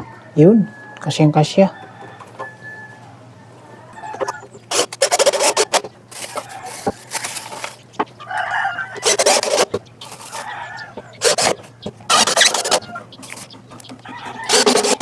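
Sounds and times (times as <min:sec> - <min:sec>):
rooster crowing: 0:00.0 - 0:04.6, 0:05.4 - 0:15.0
chickens clucking and squawking: 0:00.0 - 0:15.0.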